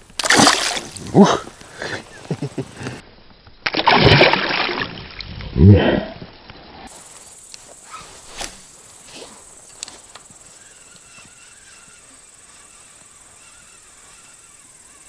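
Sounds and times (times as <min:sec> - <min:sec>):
faint steady hiss: 0:00.0 - 0:03.6, 0:06.1 - 0:15.0.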